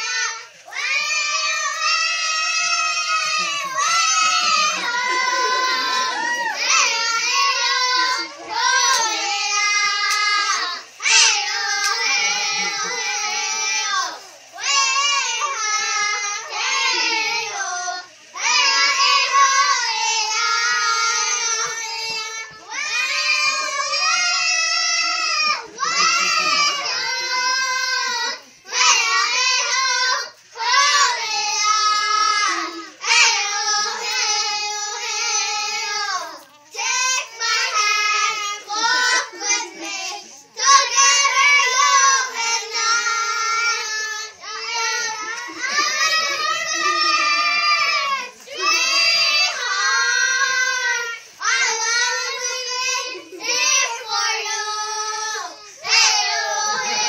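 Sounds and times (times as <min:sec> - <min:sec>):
children singing together: 0:00.0 - 0:57.0.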